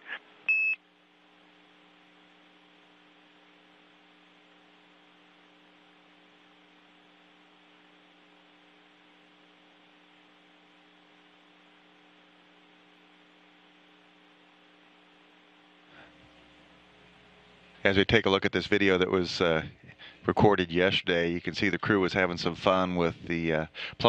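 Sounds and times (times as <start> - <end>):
steady low hum with hiss: 0.0 - 24.0.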